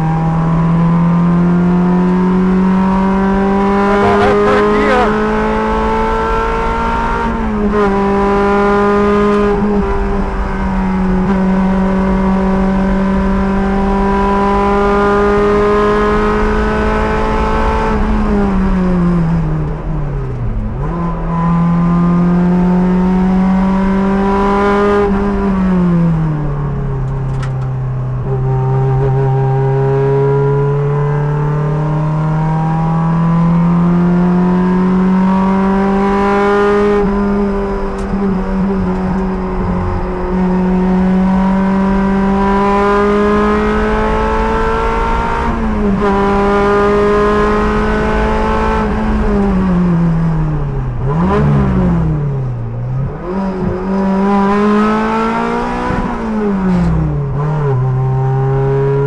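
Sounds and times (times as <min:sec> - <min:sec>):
race car engine accelerating: 0:00.0 - 0:27.6, 0:28.3 - 0:59.0.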